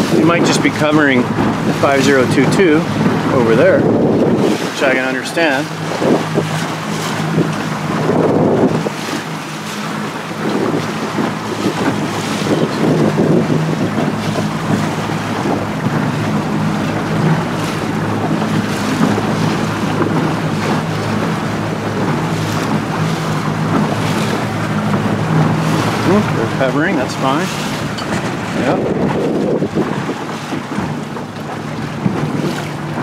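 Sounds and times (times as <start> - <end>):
motorboat engine humming: 0.0 - 33.0
water splashing against hull: 0.0 - 33.0
wind buffeting microphone: 0.0 - 33.0.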